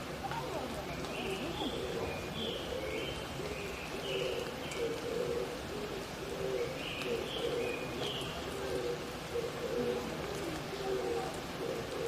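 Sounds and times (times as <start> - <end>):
doves cooing: 0.0 - 12.0
steady background hiss: 0.0 - 12.0.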